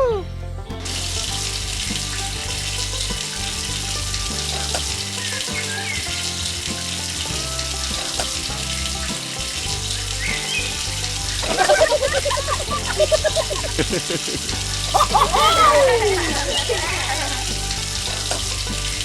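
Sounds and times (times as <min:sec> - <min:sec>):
background music with bass: 0:00.0 - 0:19.0
running water hissing: 0:01.2 - 0:19.0.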